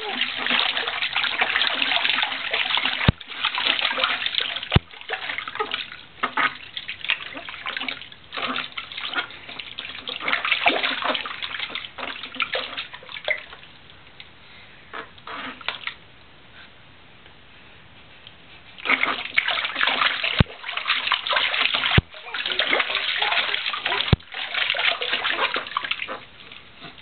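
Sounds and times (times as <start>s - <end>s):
bath water splashing: 0.0s - 13.7s, 18.7s - 27.0s.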